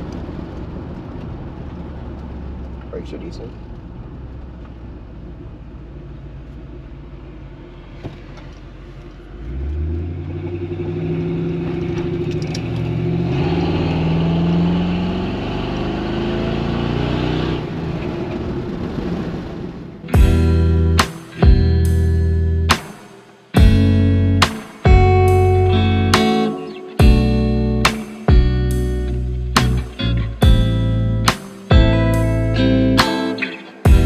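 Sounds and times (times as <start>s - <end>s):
truck engine accelerating: 0.0s - 22.8s, 27.0s - 34.0s.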